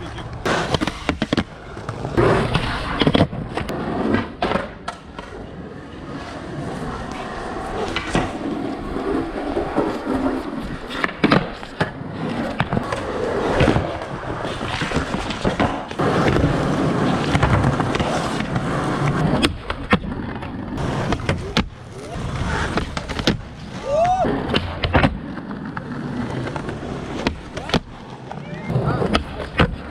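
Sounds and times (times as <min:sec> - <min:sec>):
skateboard clacks: 0:00.0 - 0:05.5, 0:09.2 - 0:29.9
skateboard wheels rumbling on pavement: 0:00.0 - 0:29.9.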